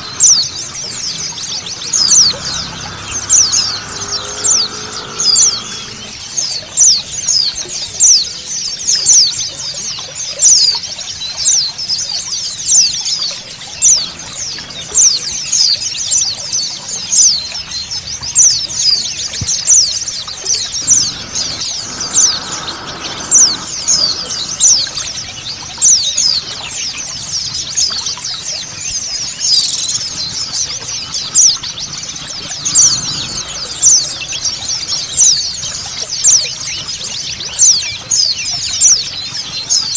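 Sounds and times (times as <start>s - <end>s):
birds twittering: 0.0s - 39.9s
running water: 0.0s - 39.9s.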